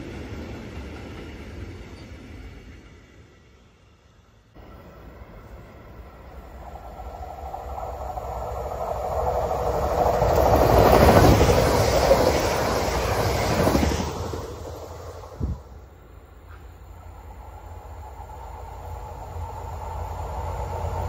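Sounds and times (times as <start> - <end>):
train wheels rolling on rails: 0.0 - 21.0.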